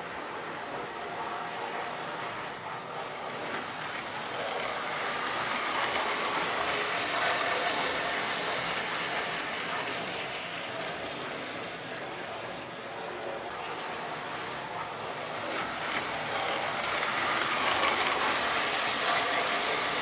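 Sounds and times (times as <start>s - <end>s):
model train whirring and rattling: 0.0s - 20.0s.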